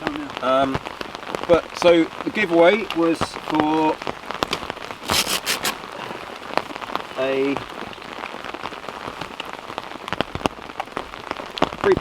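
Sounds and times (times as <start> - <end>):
raindrops tapping on a surface: 0.0 - 4.9, 6.5 - 12.0.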